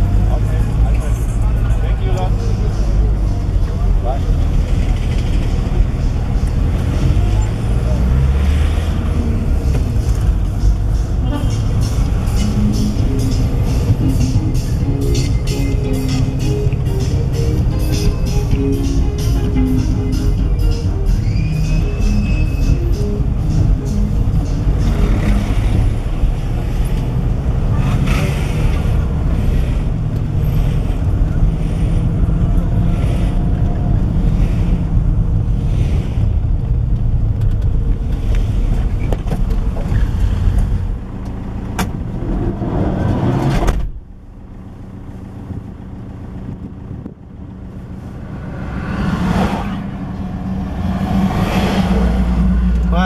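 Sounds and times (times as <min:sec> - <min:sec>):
traffic: 0:00.0 - 0:53.0
vehicle engine and road noise: 0:00.0 - 0:53.0.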